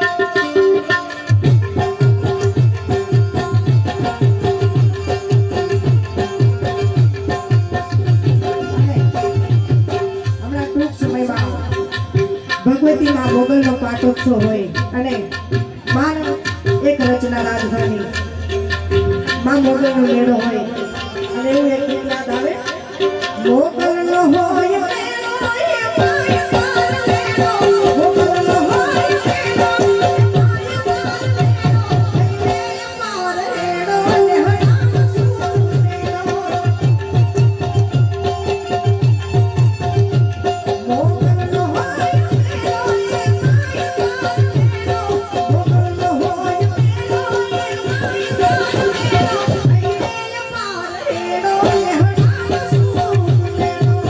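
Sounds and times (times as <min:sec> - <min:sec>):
drum beats: 0:00.0 - 0:54.0.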